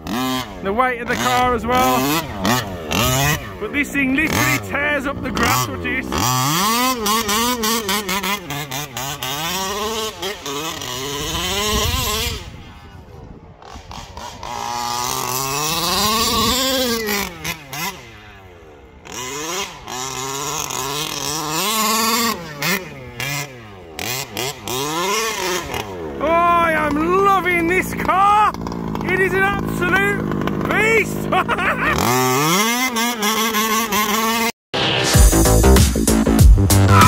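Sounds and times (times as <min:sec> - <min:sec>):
two-stroke rc truck engine revving: 0:00.0 - 0:37.0.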